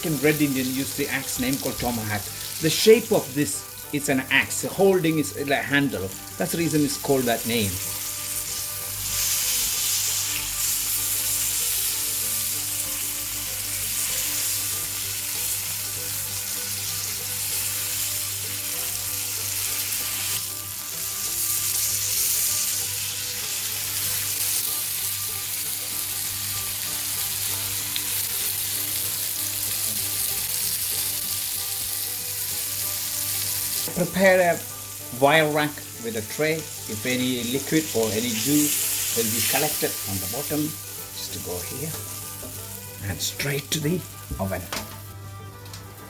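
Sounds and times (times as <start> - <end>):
steak sizzling in a pan: 0.0 - 46.0.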